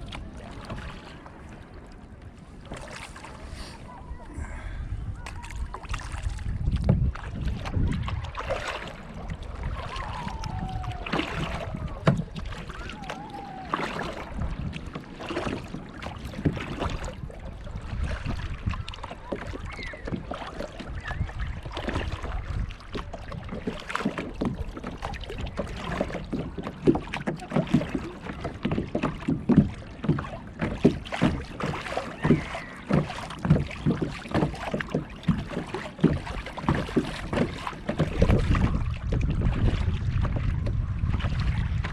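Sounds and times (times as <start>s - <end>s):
water slapping against kayak hull: 0.0s - 4.2s, 5.0s - 41.9s
paddle splashing in water: 0.0s - 41.9s.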